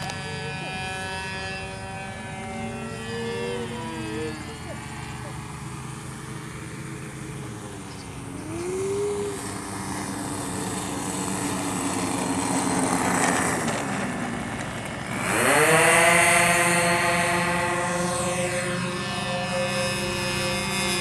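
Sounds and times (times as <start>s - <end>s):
model airplane engine running: 0.0s - 21.0s.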